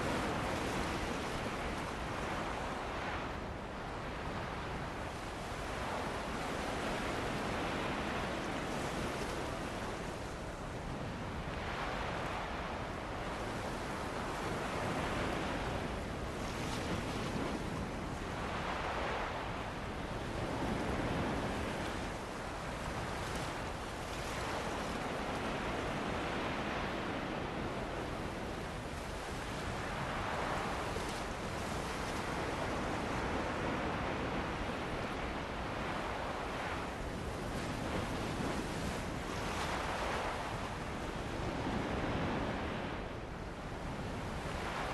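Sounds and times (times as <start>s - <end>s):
ocean waves washing ashore: 0.0s - 44.9s
wind: 0.0s - 44.9s.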